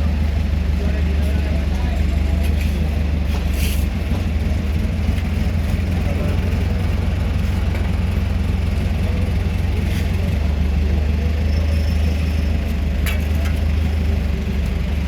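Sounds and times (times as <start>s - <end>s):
heavy machinery engine humming: 0.0s - 15.0s.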